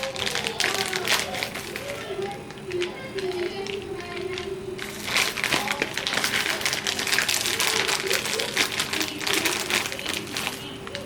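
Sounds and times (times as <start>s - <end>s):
faint steady hum: 0.0s - 11.0s
plastic bag crinkling: 0.0s - 11.0s.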